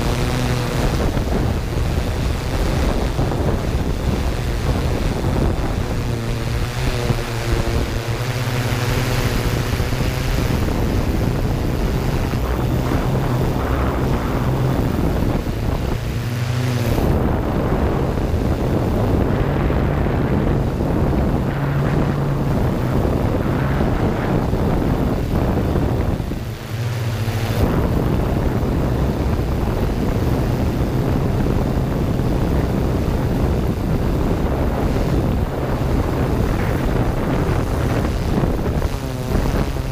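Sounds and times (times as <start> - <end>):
drone rotors humming: 0.0 - 39.9
wind rushing over microphone: 0.0 - 39.9.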